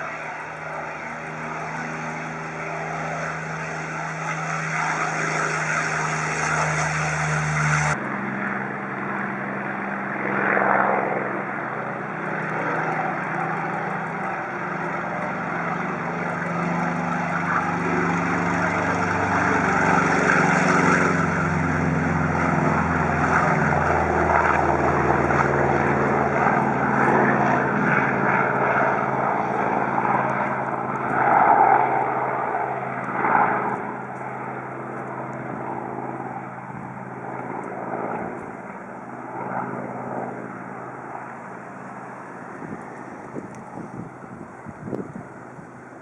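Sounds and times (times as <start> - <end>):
propeller plane piston engine: 0.0 - 46.0.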